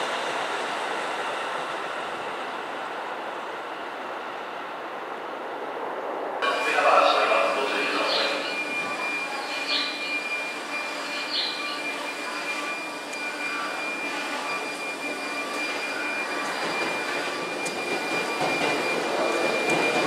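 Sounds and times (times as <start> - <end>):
electric train running past: 0.0 - 20.0.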